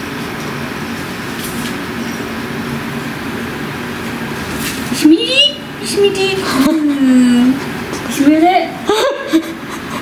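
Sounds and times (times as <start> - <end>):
mechanical running noise with hum: 0.0 - 10.0.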